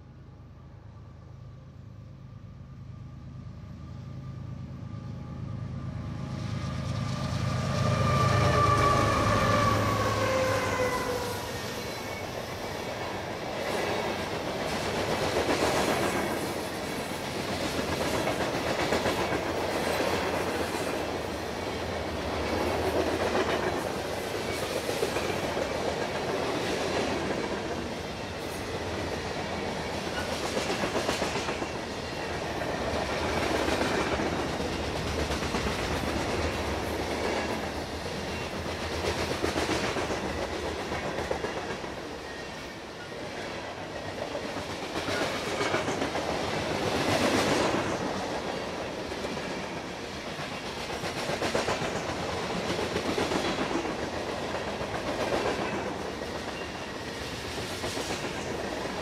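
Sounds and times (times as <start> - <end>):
diesel locomotives rumbling past: 0.0 - 59.0.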